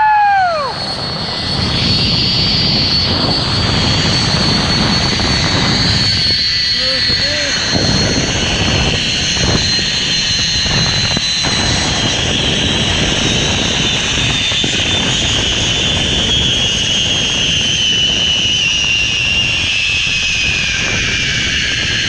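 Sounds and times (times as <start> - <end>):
zipline pulleys whining on cable: 0.0 - 21.9
wind noise on microphone: 0.0 - 22.0.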